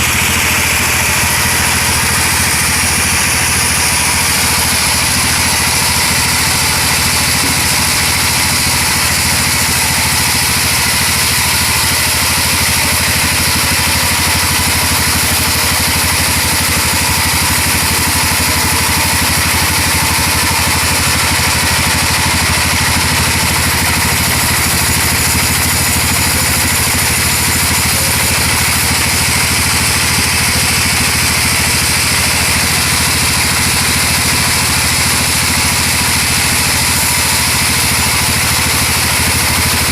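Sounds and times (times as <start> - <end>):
engine hum: 0.0 - 39.9.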